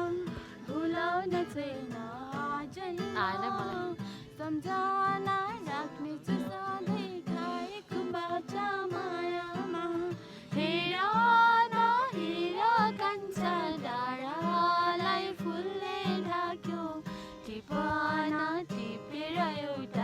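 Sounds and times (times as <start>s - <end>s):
plucked acoustic guitar: 0.0s - 20.0s.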